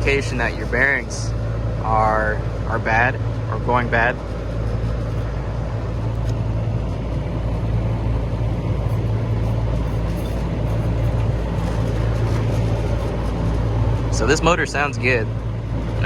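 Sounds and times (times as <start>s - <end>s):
blower motor coasting: 0.0s - 16.0s
steady low mechanical hum: 0.0s - 16.0s.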